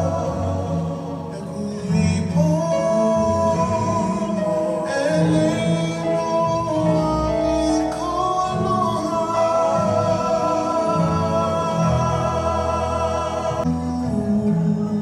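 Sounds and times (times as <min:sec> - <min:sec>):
person singing long gliding notes: 0:00.0 - 0:15.0.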